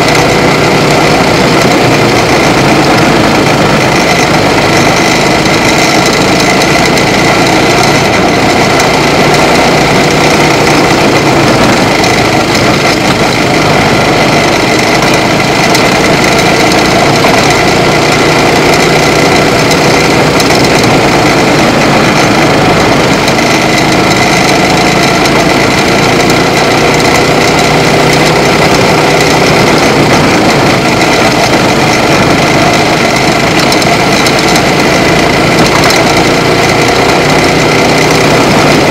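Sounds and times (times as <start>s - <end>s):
race car engine running hard: 0.0s - 38.9s.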